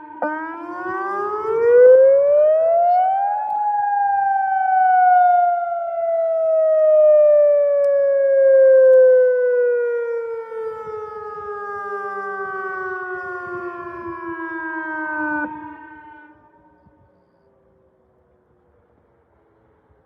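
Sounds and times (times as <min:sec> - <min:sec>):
siren winding down: 0:00.0 - 0:17.5.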